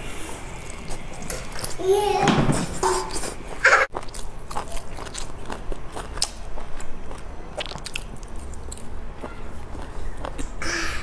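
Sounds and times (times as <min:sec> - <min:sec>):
chewing and mouth noises: 0:00.5 - 0:01.8, 0:02.9 - 0:10.6.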